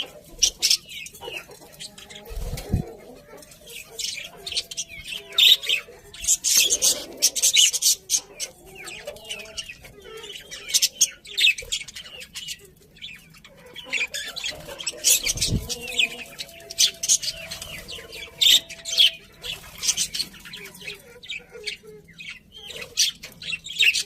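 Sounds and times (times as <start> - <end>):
budgerigars chirping: 0.0 - 24.0.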